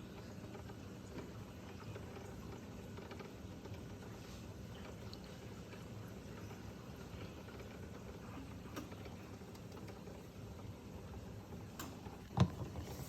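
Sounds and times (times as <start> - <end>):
magnetic stirrer humming: 0.0 - 13.0.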